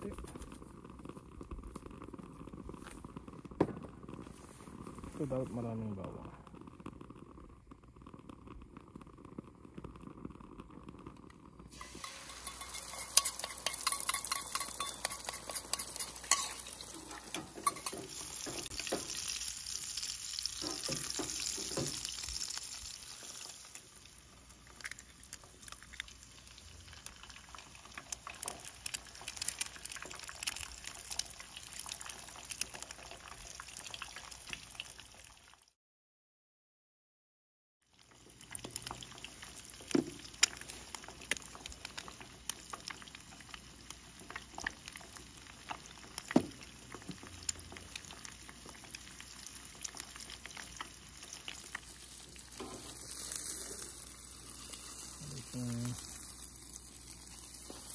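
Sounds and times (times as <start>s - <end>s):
eggs sizzling in oil: 0.0s - 35.8s, 37.8s - 57.9s.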